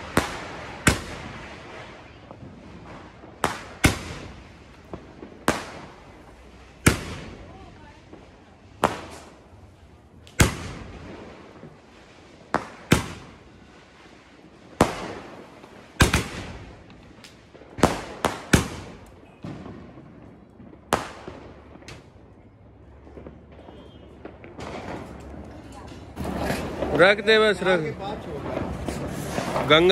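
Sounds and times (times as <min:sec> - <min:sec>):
fireworks bangs echoing: 0:00.0 - 0:29.9.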